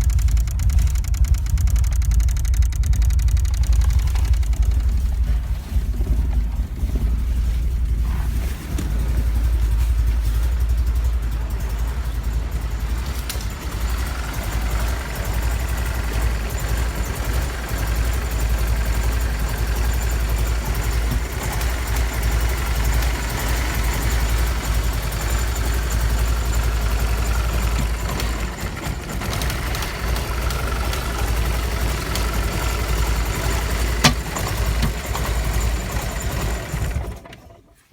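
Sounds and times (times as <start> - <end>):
car engine idling roughly: 0.0 - 37.9.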